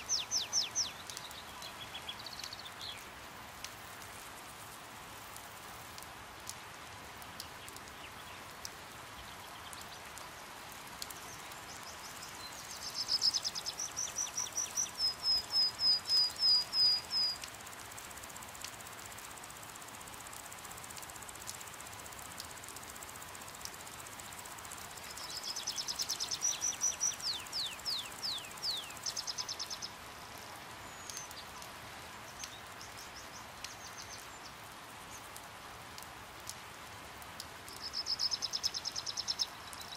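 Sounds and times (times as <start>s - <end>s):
steady rain hiss: 0.0s - 39.9s
raindrops tapping: 0.1s - 39.9s.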